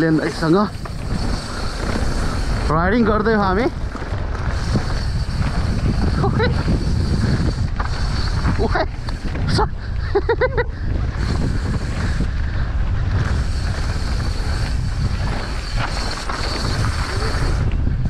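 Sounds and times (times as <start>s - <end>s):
bike rolling trail noise: 0.0s - 18.0s
wind buffeting microphone: 0.0s - 18.0s.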